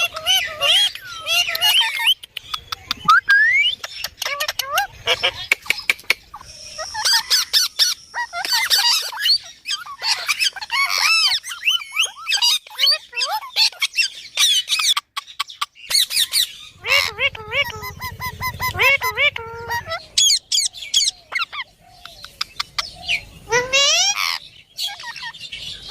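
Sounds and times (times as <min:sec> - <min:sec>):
parakeet chirping and squawking: 0:00.0 - 0:02.9, 0:03.7 - 0:25.9.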